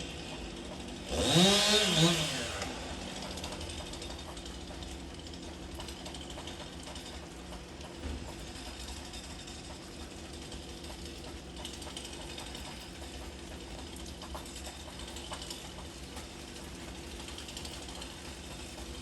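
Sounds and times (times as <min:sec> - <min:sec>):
small petrol engine running: 0:00.0 - 0:19.0.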